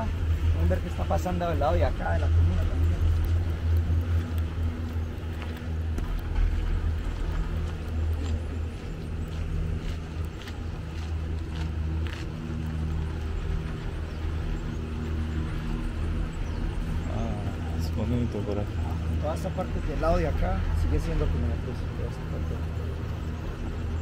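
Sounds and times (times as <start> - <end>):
cable car mechanical hum: 0.0 - 24.0.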